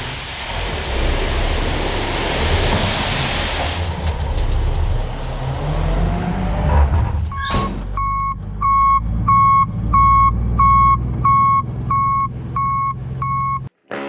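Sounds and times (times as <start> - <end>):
heavy diesel equipment rumbling: 0.0 - 13.7.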